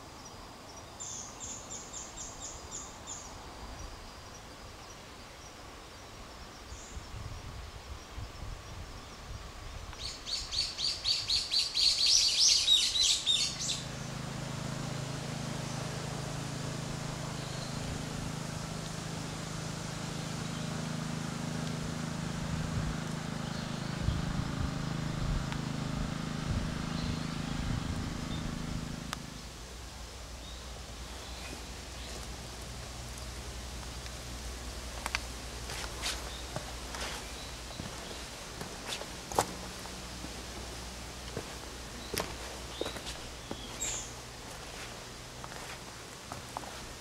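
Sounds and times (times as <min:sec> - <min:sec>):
low mechanical hum: 0:06.0 - 0:47.0.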